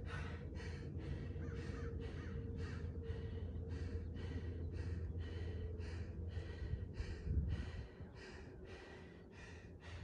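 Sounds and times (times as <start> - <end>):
man panting hard: 0.0 - 10.0.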